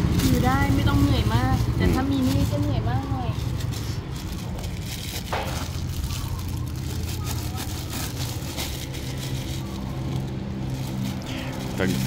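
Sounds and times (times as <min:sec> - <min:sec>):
engine humming: 0:00.0 - 0:12.0
plastic bag crinkling: 0:00.0 - 0:12.0.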